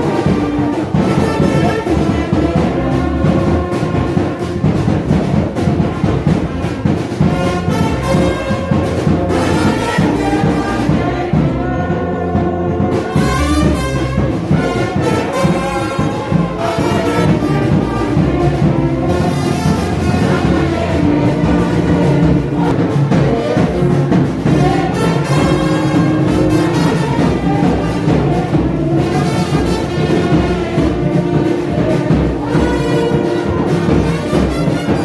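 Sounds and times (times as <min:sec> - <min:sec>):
brass band playing: 0:00.0 - 0:35.0.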